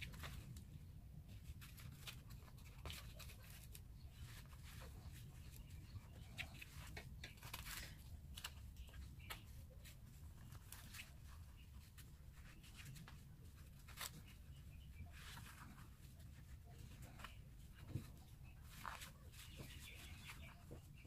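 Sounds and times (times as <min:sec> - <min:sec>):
low steady hum: 0:00.0 - 0:21.0
yarn rustling with crochet hook: 0:00.0 - 0:21.0.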